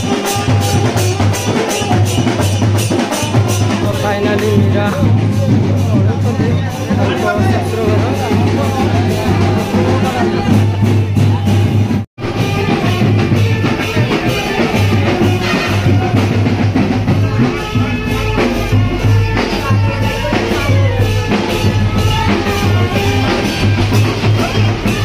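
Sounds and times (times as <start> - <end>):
drums: 0.0 - 25.0.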